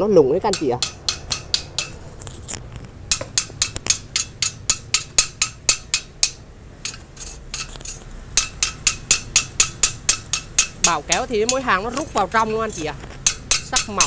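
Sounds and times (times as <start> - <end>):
hammer tapping on steel: 0.5 - 2.0, 3.1 - 7.8, 8.4 - 14.0.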